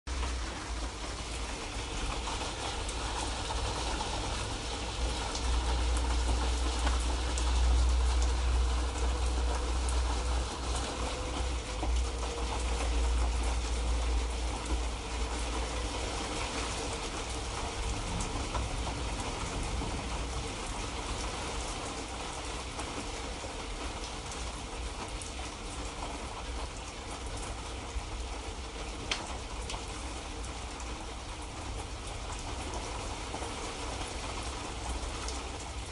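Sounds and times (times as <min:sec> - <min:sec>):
light rain pattering: 0:00.1 - 0:35.9.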